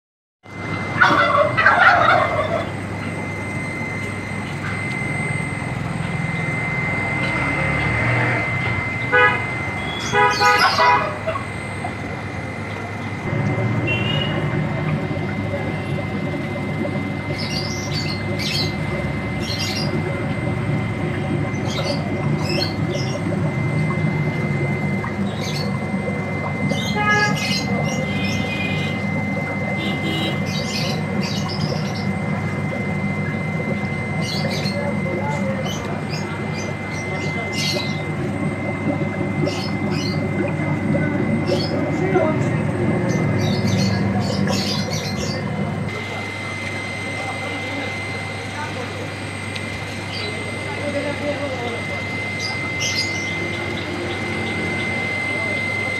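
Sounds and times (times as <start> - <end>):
aquarium air pump humming: 0.4 - 55.9
thin high tone: 0.5 - 55.9.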